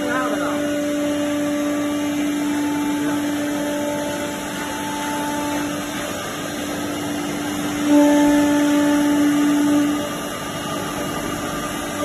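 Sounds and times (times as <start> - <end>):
router spindle whine: 0.0 - 12.0
wood cutting noise: 0.0 - 12.0.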